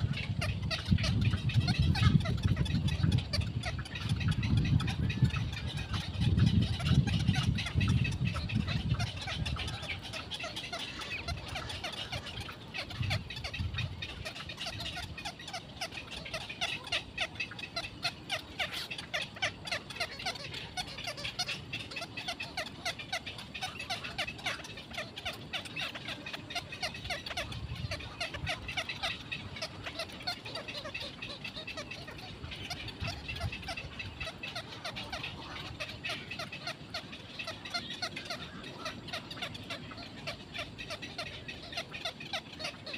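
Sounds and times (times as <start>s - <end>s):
chattering animal calls: 0.0s - 42.9s.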